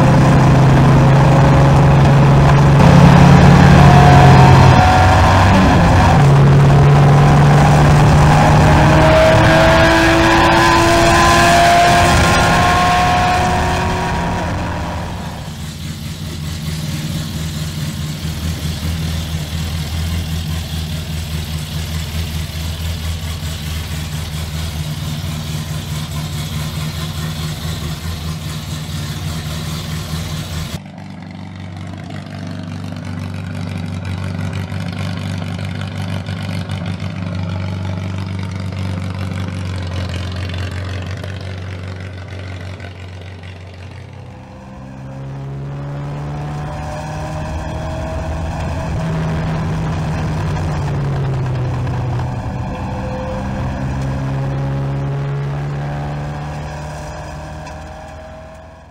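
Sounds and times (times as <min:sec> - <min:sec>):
race car engine at high revs: 0:00.0 - 0:31.3, 0:32.0 - 0:58.9
car engine idling: 0:00.0 - 0:58.9.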